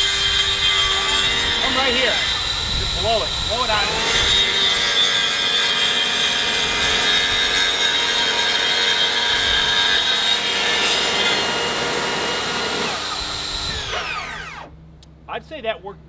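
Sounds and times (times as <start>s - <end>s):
table saw cutting stone: 0.0s - 14.7s.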